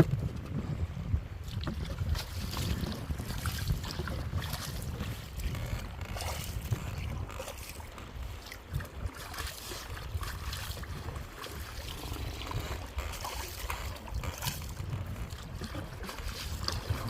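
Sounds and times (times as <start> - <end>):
water splashing and lapping: 0.0 - 17.0
wind buffeting microphone: 0.0 - 17.0.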